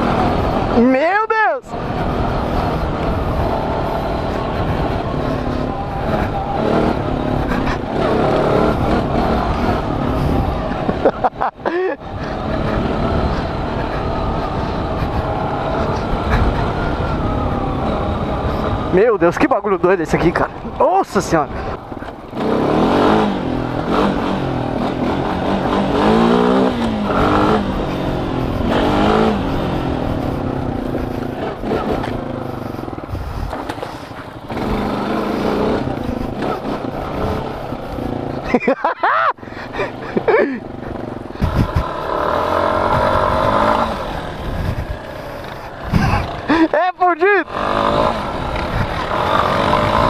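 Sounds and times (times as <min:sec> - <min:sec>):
atv engine revving: 0:00.0 - 0:50.0
wind and ground noise: 0:00.0 - 0:50.0.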